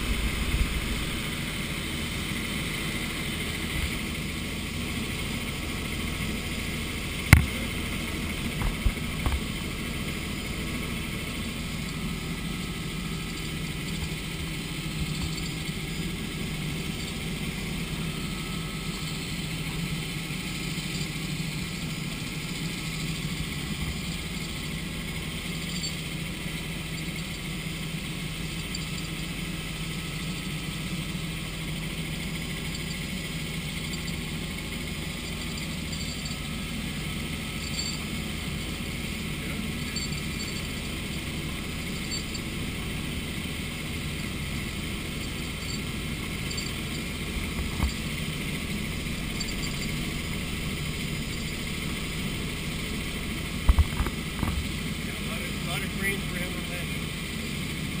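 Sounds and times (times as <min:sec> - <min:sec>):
helicopter drone in cockpit: 0:00.0 - 0:58.0.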